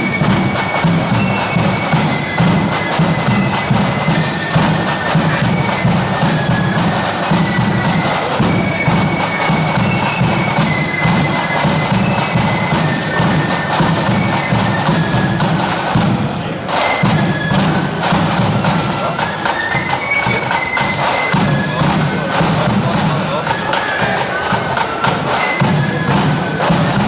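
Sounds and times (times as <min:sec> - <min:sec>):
flutes playing a high melody: 0:00.0 - 0:27.0
snare drums: 0:00.0 - 0:27.0.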